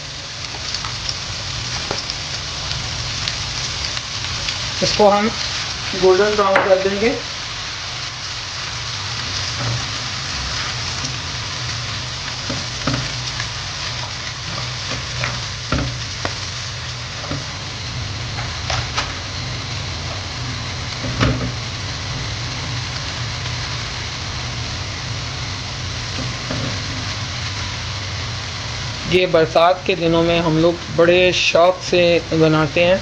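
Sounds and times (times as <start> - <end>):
onions sizzling in oil: 0.0 - 33.0.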